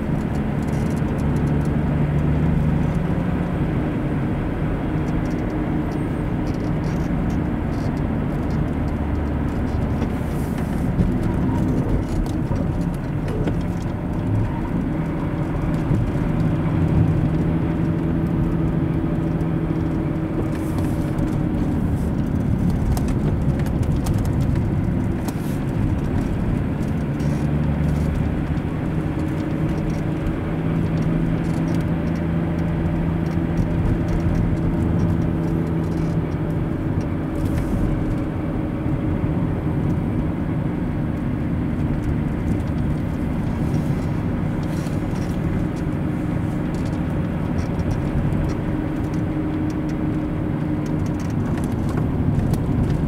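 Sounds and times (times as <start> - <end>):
car engine and tyre hum: 0.0 - 53.0.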